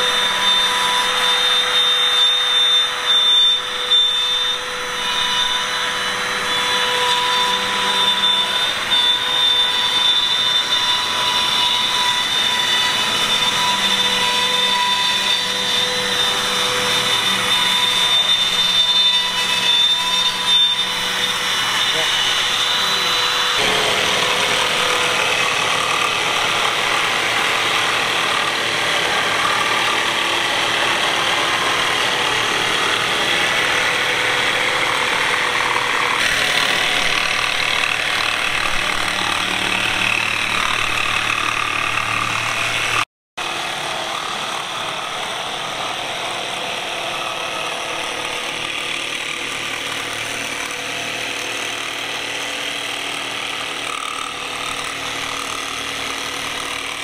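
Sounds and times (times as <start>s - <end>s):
jigsaw sawing wood: 0.0s - 57.0s.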